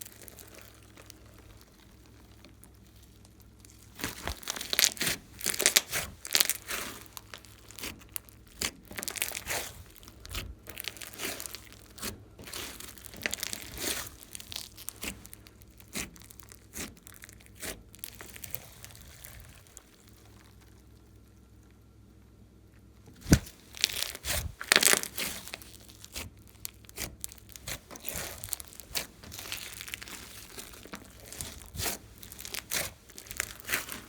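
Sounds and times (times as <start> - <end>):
slime squished crackling pops: 0.0 - 20.6, 23.2 - 34.0.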